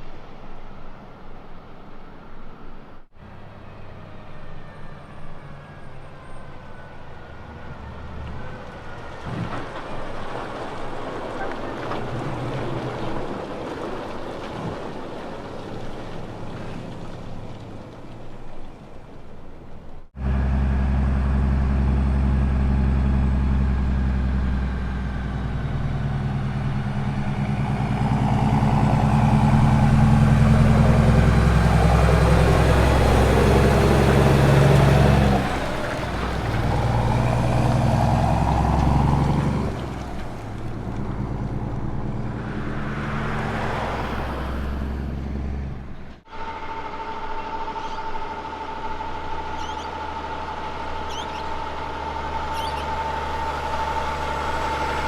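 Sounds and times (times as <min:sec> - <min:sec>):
truck passing by: 0:00.0 - 0:55.0
diesel engine running close: 0:01.2 - 0:55.0.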